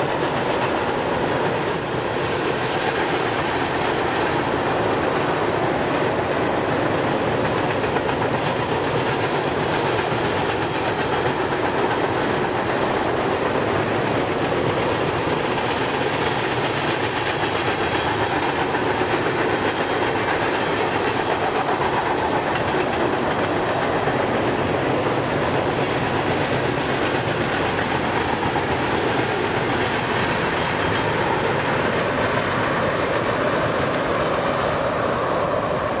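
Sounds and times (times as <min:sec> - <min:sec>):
freight train wheels on rails: 0:00.0 - 0:36.0.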